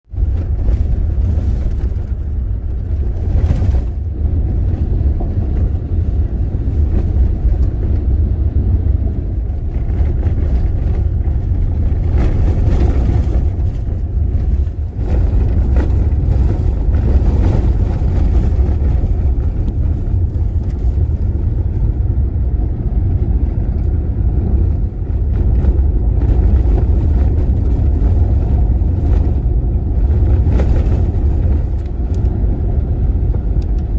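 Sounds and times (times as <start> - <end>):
car driving rumble: 0.0 - 33.9.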